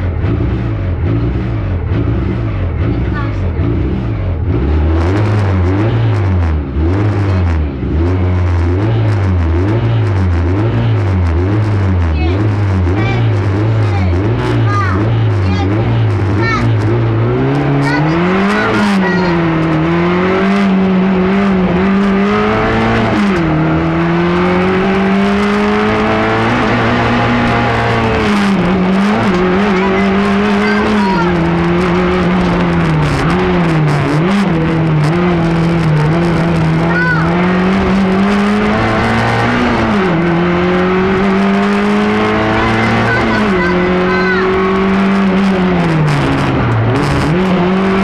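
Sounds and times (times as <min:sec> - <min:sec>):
car engine accelerating: 0:00.0 - 0:48.0.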